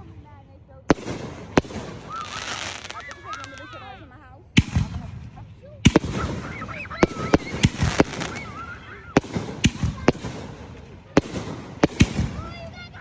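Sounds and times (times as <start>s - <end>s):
fireworks banging: 0.0s - 13.0s
fireworks crackle and hiss: 0.0s - 13.0s.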